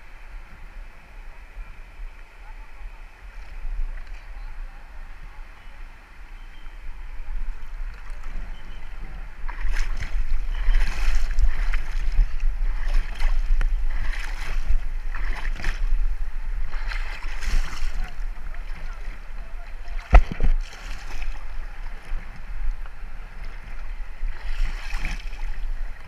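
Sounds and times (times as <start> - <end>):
river water splashing: 0.0 - 26.0
steady low rumble: 0.0 - 26.0.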